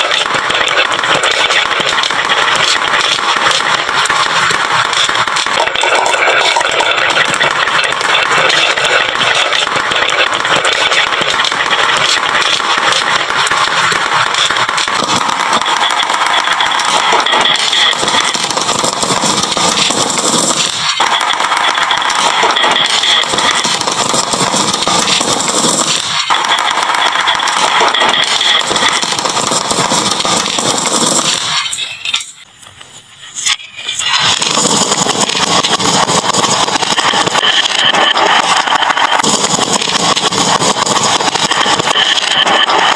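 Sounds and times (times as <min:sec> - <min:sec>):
marbles rattling down wooden run: 0:00.0 - 0:31.7, 0:34.1 - 0:42.9.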